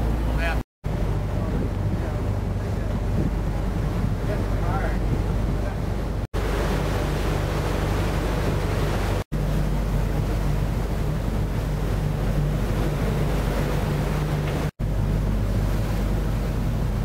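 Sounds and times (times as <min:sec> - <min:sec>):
boat engine droning: 0:00.0 - 0:17.0
rushing water: 0:00.0 - 0:17.0
wind buffeting microphone: 0:00.0 - 0:17.0.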